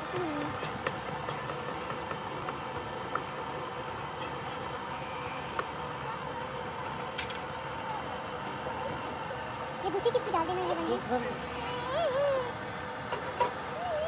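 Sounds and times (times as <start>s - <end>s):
street background hum: 0.0s - 14.0s.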